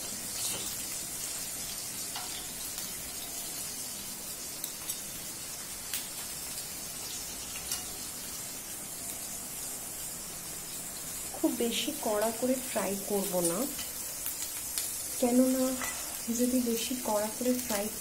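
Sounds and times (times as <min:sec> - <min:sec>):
chicken frying in oil: 0:00.0 - 0:18.0.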